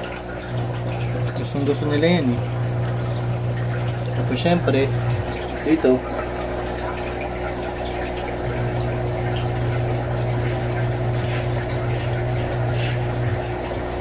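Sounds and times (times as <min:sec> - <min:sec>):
air bubbling through water: 0:00.0 - 0:14.0
air pump humming: 0:00.0 - 0:14.0.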